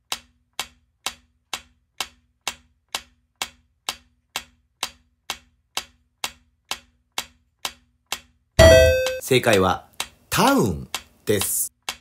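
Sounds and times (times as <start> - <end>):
timer ticking: 0.0 - 12.0.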